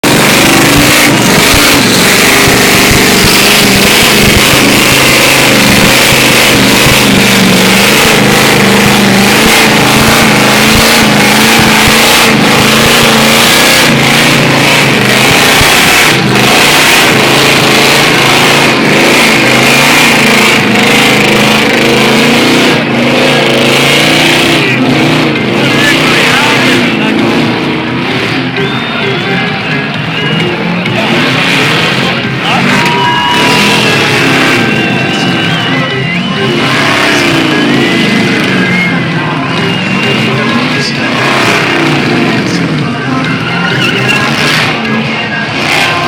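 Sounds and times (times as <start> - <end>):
engine revving at high revs: 0.0 - 46.0
tyres screeching: 0.0 - 46.0.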